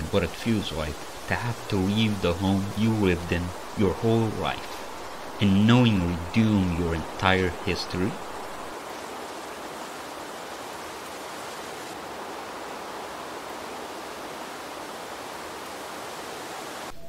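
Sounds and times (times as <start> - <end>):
steady rushing noise: 0.0 - 16.9.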